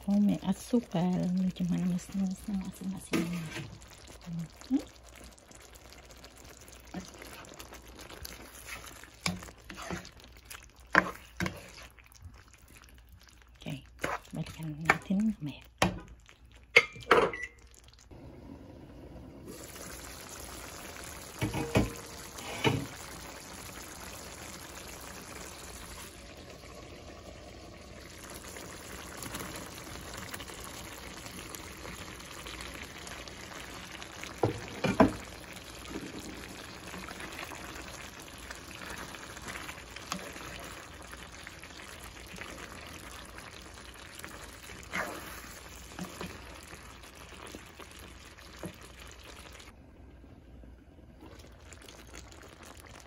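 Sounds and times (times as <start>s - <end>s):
sauce bubbling in a skillet: 0.0s - 53.0s.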